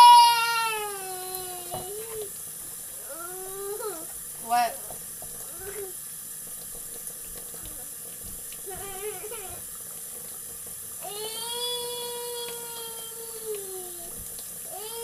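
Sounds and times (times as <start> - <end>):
tap water running into sink: 0.0 - 15.0.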